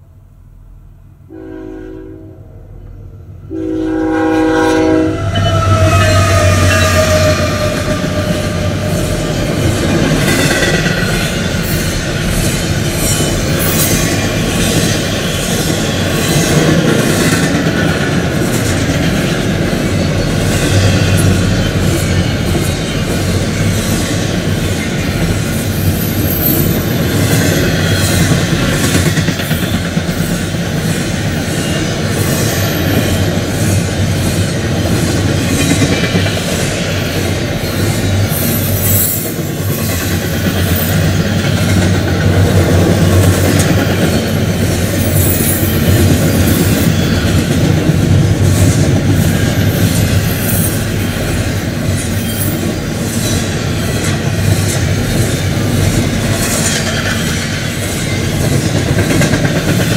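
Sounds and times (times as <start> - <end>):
train wheels rumbling: 1.2 - 59.9.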